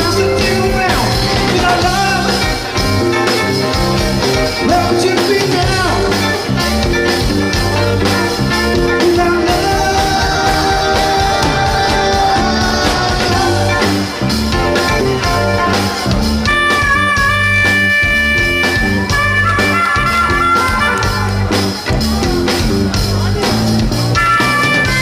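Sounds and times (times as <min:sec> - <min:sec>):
bass guitar: 0:00.0 - 0:25.0
drum beat: 0:00.0 - 0:25.0
electric guitar: 0:00.0 - 0:25.0.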